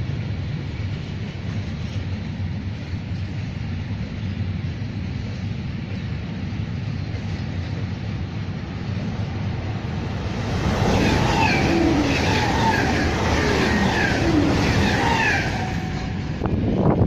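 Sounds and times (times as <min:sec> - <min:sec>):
electric train rushing past: 0:00.0 - 0:17.0.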